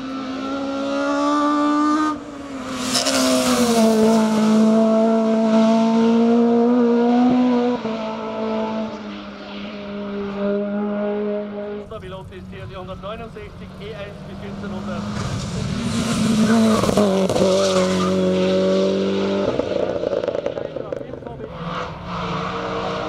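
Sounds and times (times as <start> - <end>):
rally car engines at high revs: 0.0 - 23.0.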